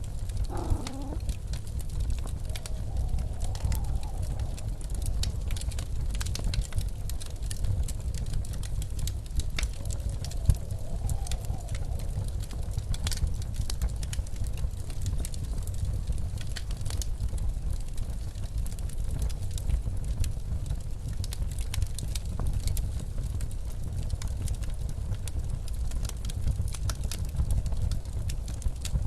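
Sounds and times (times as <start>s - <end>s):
blizzard wind rumbling and howling: 0.0s - 29.0s
wood fire crackling and popping: 0.0s - 29.0s.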